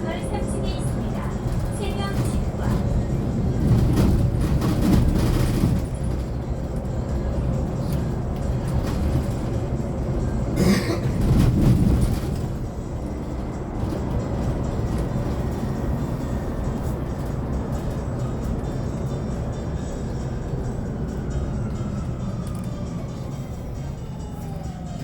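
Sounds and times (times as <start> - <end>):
bus road and tyre rumble: 0.0 - 25.0.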